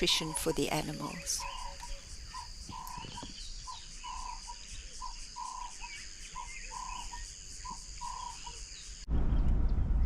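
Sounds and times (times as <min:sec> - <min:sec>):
faint bird chirps: 0:00.0 - 0:09.1
insects buzzing: 0:00.0 - 0:09.1.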